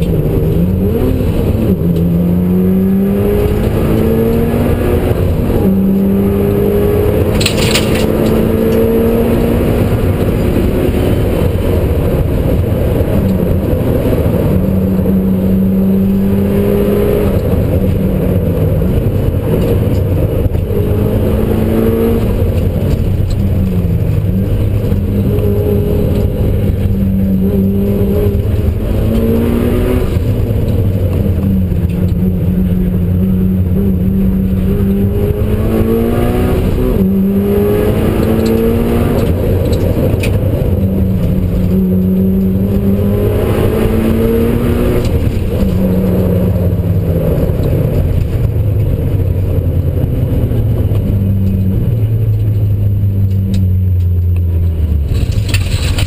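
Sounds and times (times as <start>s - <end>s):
car engine revving through gears: 0.0s - 56.0s
constant low rumble: 0.0s - 56.0s.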